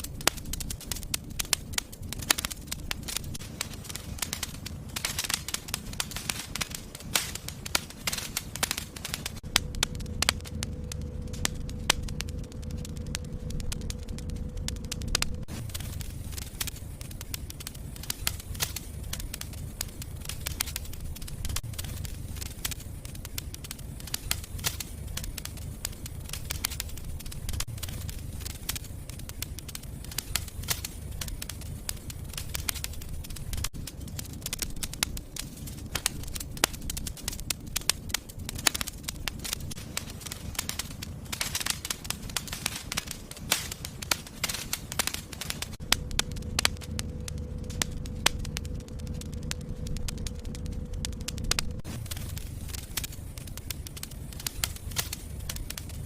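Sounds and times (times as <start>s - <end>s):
fireplace fire crackling: 0.0s - 56.0s.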